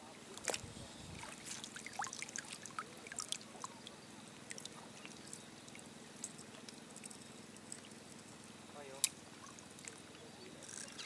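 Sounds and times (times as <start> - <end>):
soft steady hiss: 0.0 - 11.0
water trickling and dripping: 0.0 - 11.0.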